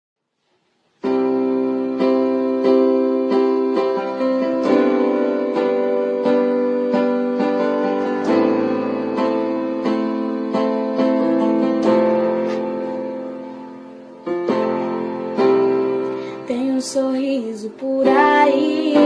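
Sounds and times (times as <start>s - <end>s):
keyboard playing sustained chords: 1.0s - 16.6s.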